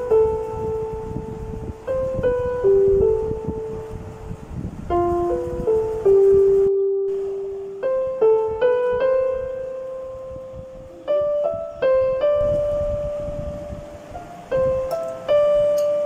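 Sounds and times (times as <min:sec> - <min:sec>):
piano single notes: 0:00.0 - 0:16.0.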